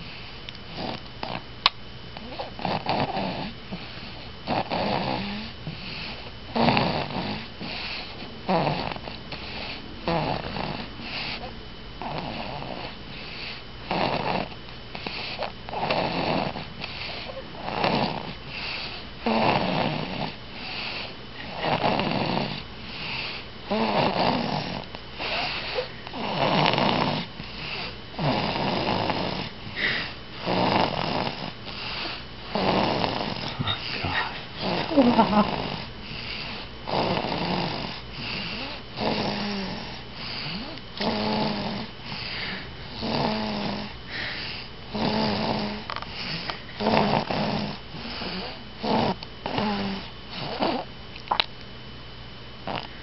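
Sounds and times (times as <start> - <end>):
rhythmic snoring: 0.0 - 1.5, 2.2 - 50.9, 52.6 - 53.0.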